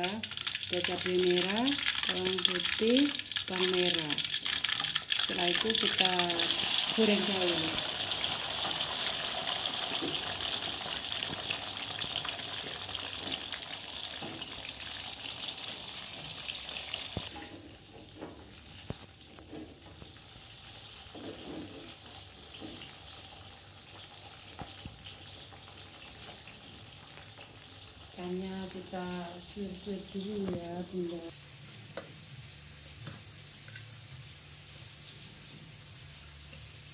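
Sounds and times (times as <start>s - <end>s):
food sizzling in hot oil: 0.0s - 17.9s, 20.0s - 36.9s.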